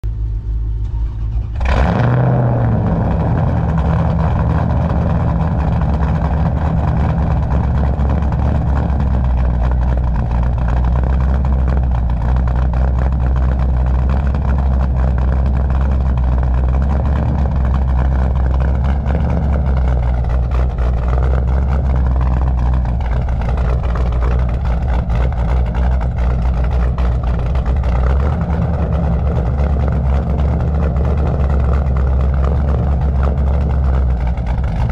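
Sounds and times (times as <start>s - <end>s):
car engine idling with lopey exhaust: 0.0s - 34.9s.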